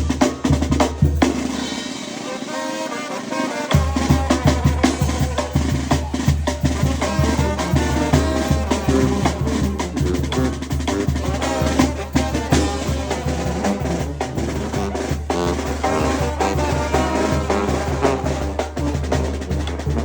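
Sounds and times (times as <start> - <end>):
drums and percussion beat: 0.0 - 20.0
up-tempo latin music: 0.0 - 20.0.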